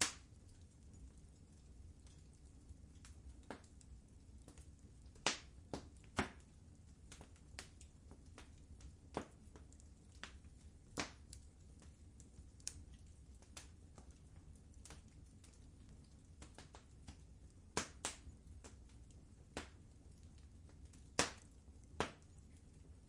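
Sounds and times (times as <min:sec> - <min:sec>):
low rumble of flames: 0:00.0 - 0:23.0
wood fire popping and snapping: 0:00.0 - 0:23.0.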